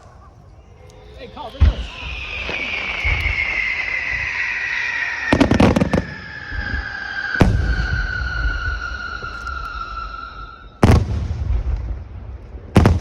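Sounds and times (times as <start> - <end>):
falling firework whistle: 0.0 - 12.0
firework bangs: 0.0 - 13.0.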